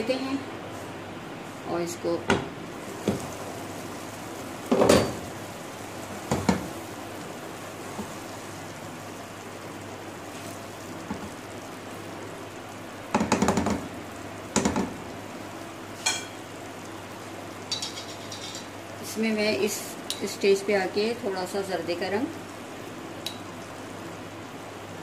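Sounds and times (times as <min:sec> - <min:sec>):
pot hissing on gas flame: 0:00.0 - 0:25.0.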